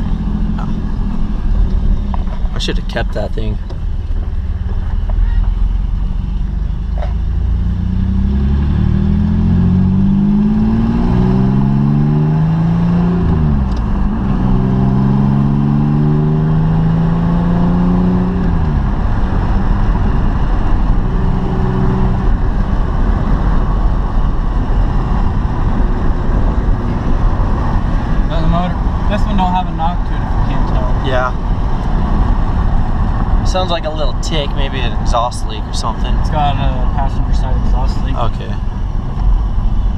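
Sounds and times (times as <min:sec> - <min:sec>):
loud raw exhaust: 0:00.0 - 0:39.9
pickup engine accelerating: 0:00.0 - 0:39.9.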